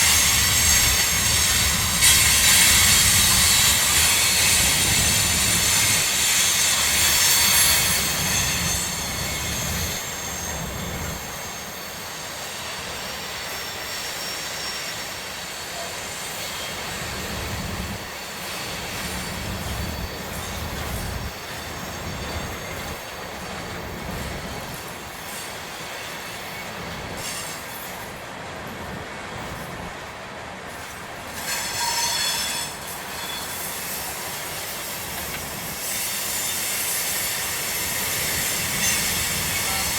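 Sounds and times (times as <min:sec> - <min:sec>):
train wheels squealing: 0:00.0 - 0:30.0, 0:30.7 - 0:39.9
freight train rumbling: 0:00.0 - 0:39.9.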